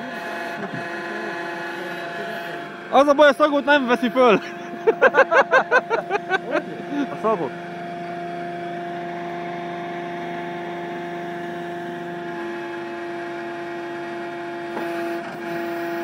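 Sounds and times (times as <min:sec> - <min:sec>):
hydraulic crane drive whining hum: 0:00.0 - 0:16.0.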